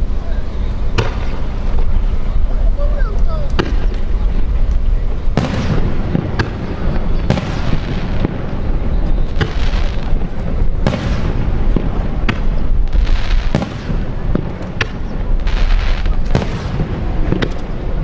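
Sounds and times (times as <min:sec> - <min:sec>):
fireworks rumble and crackle: 0:00.0 - 0:18.0
fireworks shells bursting: 0:00.5 - 0:18.0.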